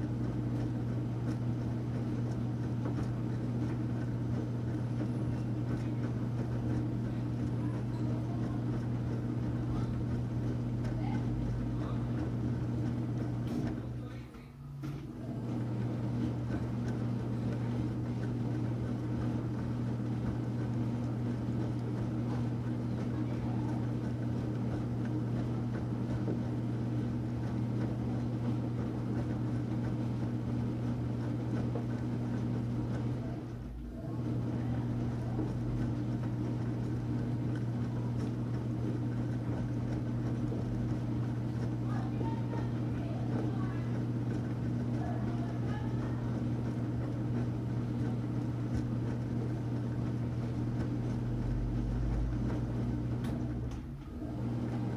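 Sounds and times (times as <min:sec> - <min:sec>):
washing machine motor hum: 0:00.0 - 0:54.9.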